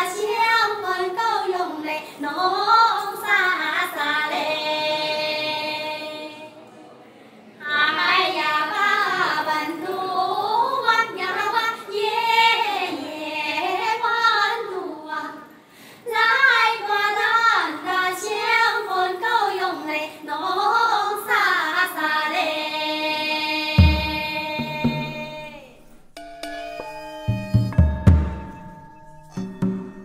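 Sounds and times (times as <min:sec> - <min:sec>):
women singing together: 0:00.0 - 0:06.7, 0:07.6 - 0:25.9.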